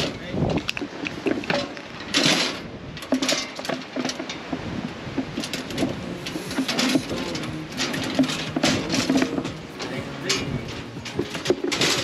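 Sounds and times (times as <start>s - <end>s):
knocks and rattles from metal crate: 0.0s - 12.0s.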